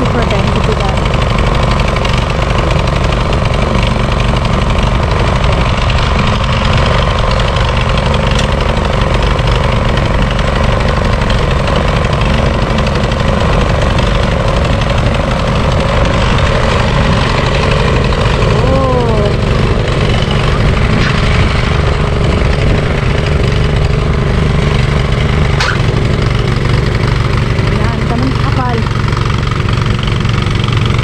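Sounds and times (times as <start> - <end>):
snow blower engine running: 0.0 - 31.0.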